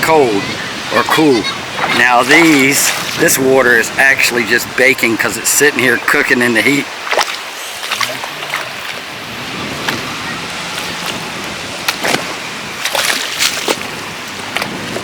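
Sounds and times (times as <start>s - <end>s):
surf on a rocky shore: 0.0s - 15.0s
water splashing and sloshing: 0.0s - 15.0s.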